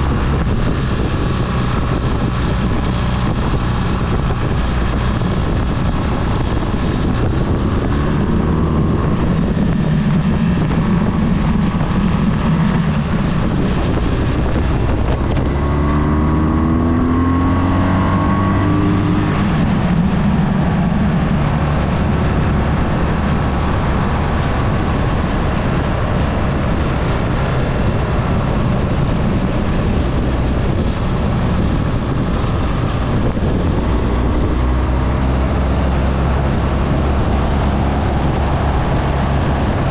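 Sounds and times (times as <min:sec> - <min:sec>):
heavy wind noise: 0:00.0 - 0:39.9
vehicle engine pulling uphill: 0:00.0 - 0:39.9.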